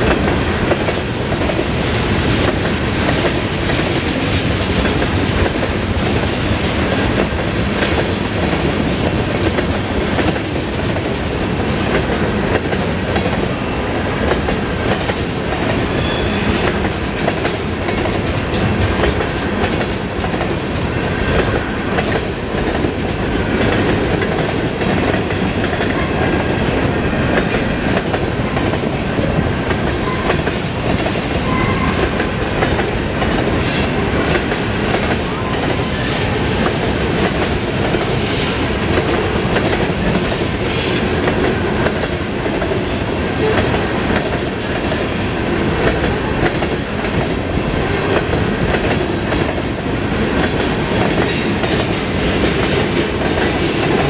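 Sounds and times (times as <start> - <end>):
clickety-clack over rail joints: 0.0 - 54.0
freight train wheels rumbling: 0.0 - 54.0.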